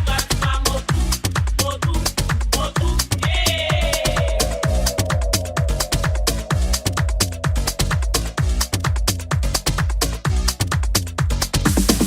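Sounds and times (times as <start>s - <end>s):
crisp hi-hats: 0.0s - 12.0s
electronic dance music: 0.0s - 12.0s
kick drum: 0.0s - 12.0s.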